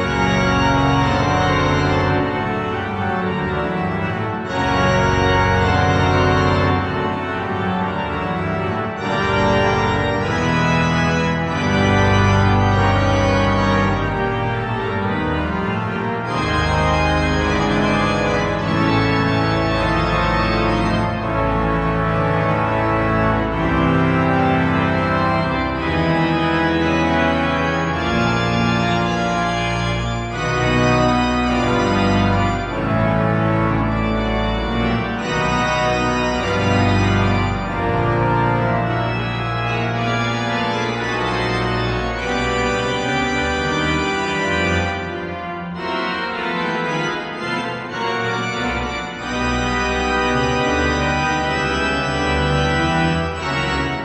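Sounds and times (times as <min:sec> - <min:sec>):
pipe organ chords: 0:00.0 - 0:54.0.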